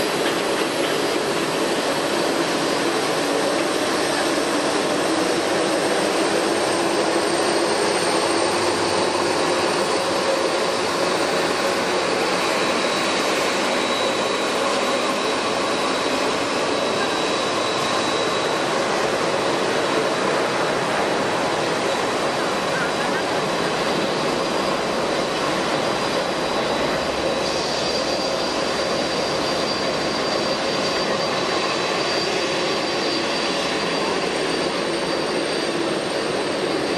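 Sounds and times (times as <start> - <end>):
jet engines running: 0.0 - 36.9.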